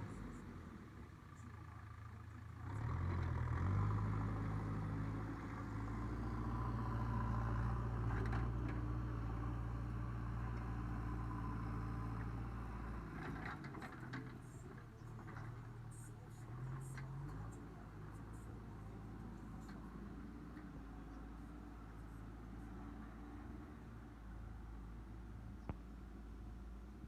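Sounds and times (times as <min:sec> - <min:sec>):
backhoe diesel engine revving: 0:00.0 - 0:25.3.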